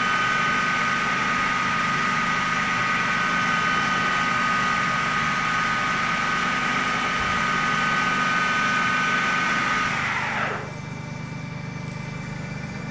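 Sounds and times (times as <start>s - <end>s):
lathe cutting noise: 0.0s - 11.2s
lathe spindle whine: 0.0s - 12.9s.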